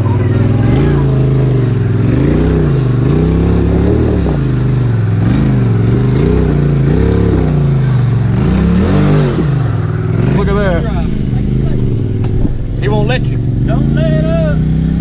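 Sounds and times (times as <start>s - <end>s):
engine revving up and down: 0.0s - 15.0s.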